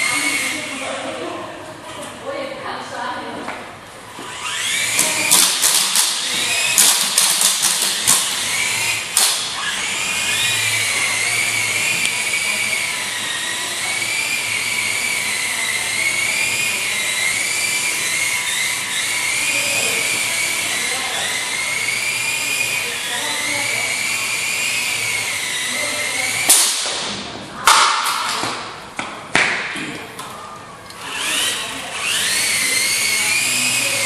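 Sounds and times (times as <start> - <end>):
toy helicopter motor whining: 0.0 - 1.4, 4.2 - 27.1, 31.0 - 34.0.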